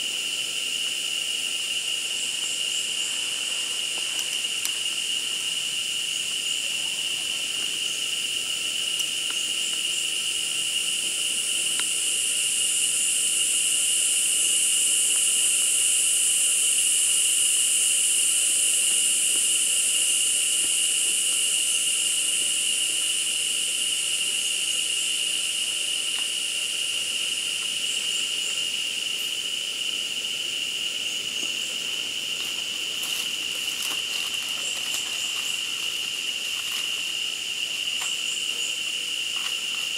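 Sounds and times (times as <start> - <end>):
high insect hiss: 0.0 - 39.9
insects droning: 0.0 - 39.9.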